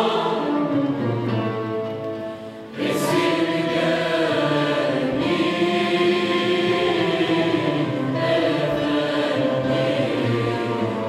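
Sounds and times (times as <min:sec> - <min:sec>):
mixed choir singing: 0:00.0 - 0:01.3, 0:02.7 - 0:11.0
traditional ensemble accompanying: 0:00.0 - 0:11.0.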